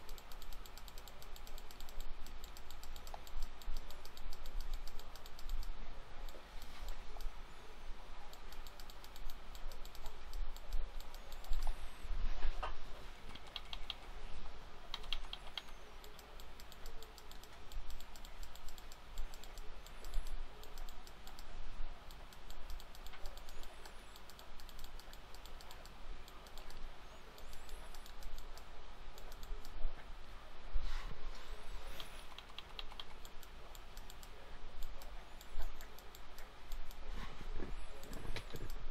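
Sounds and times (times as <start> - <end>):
keyboard and mouse clicking: 0.0 - 7.4, 8.3 - 11.8, 13.2 - 14.2, 14.9 - 29.8, 31.8 - 37.1, 37.8 - 38.8
low mains hum: 0.0 - 38.9.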